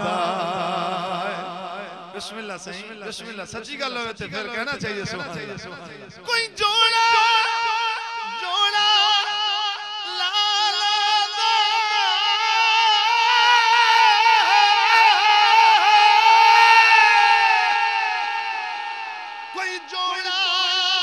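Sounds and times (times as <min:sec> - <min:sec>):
man singing long high note: 0:00.0 - 0:02.2, 0:06.3 - 0:21.0.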